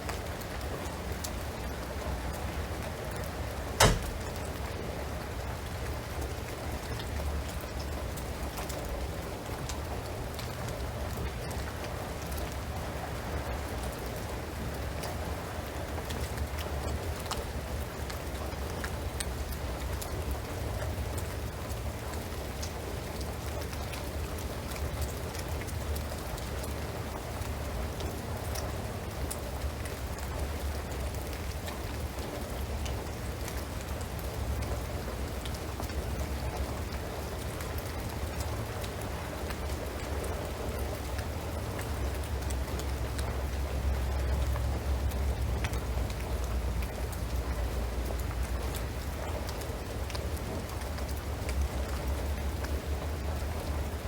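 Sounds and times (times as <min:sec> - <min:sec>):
rain hissing on a roof: 0:00.0 - 0:54.0
water drips ticking: 0:03.1 - 0:12.6, 0:15.9 - 0:54.0.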